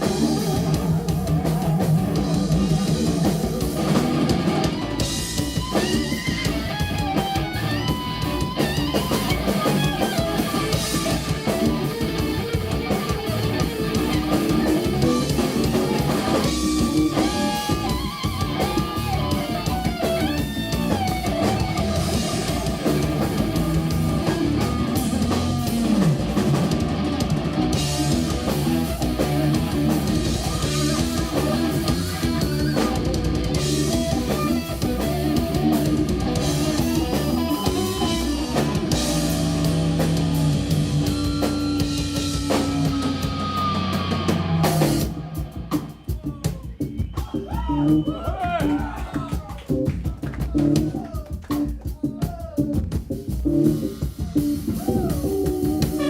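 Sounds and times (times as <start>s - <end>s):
electric guitar: 0.0s - 46.2s, 46.8s - 56.0s
bass guitar: 0.0s - 56.0s
drum kit: 0.0s - 56.0s.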